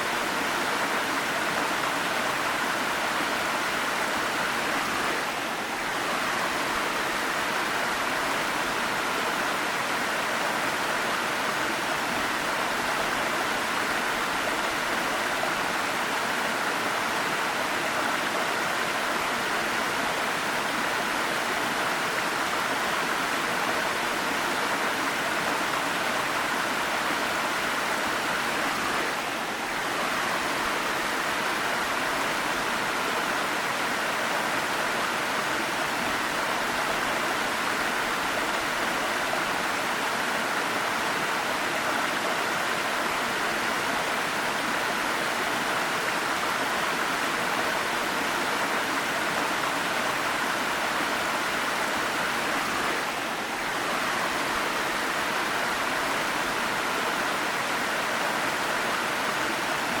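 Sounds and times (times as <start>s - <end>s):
waterfall rushing: 0.0s - 60.0s.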